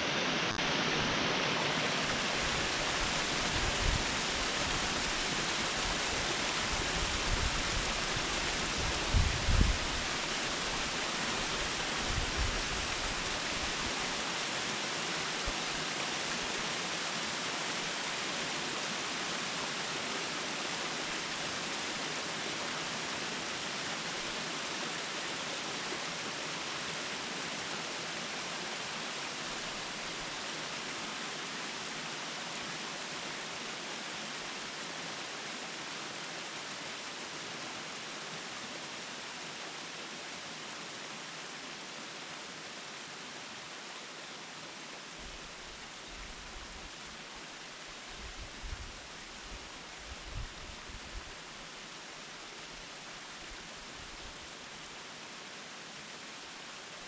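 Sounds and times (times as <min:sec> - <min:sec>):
waterfall rushing: 0:00.0 - 0:48.1.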